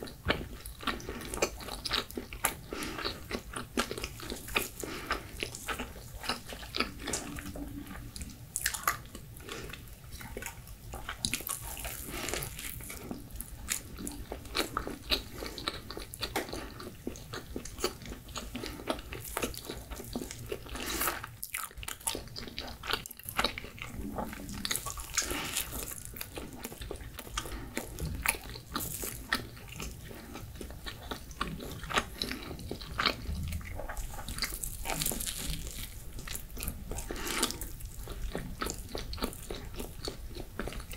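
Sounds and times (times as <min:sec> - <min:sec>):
person chewing pizza crust: 0:00.0 - 0:40.9.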